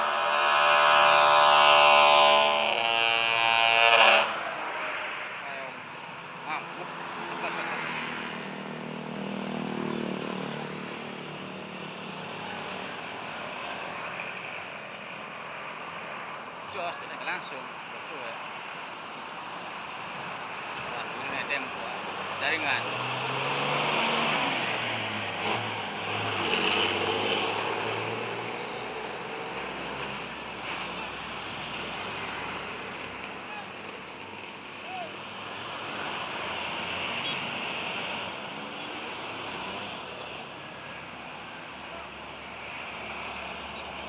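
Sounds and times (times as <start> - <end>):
bus engine drone: 0.0 - 44.0
road and wind noise: 0.0 - 44.0.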